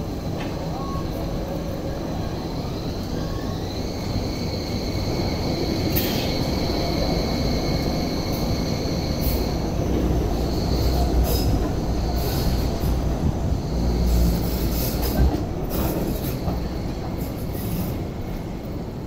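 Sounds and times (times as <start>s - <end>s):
light rail motor whine: 0.0s - 19.0s
wheels rumbling on rail: 0.0s - 19.0s.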